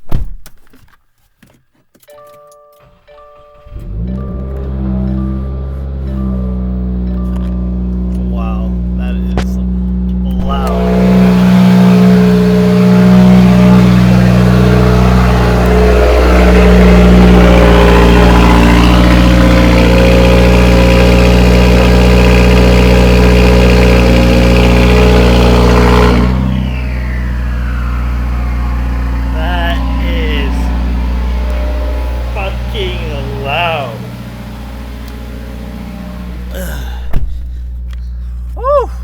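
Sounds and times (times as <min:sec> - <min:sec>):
raspy car exhaust idling: 0:03.6 - 0:39.0.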